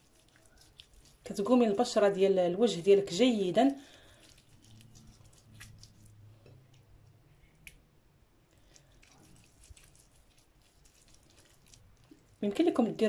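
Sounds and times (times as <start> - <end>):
wet squishing of hands rubbing: 0.0 - 6.9, 8.5 - 13.0.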